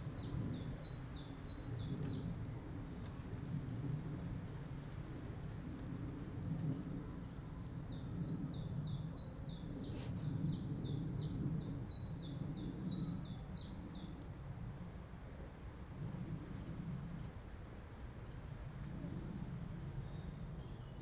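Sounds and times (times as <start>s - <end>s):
low rumble of wind: 0.0s - 21.0s.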